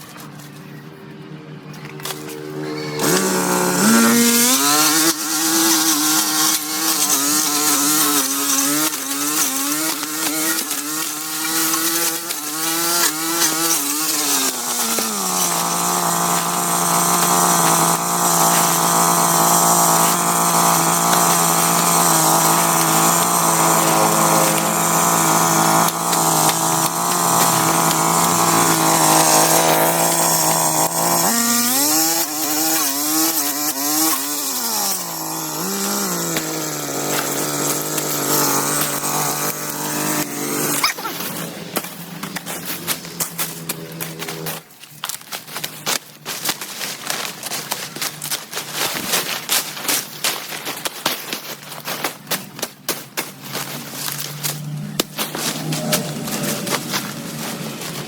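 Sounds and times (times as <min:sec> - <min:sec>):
chainsaw running at high revs: 0:02.0 - 0:58.0.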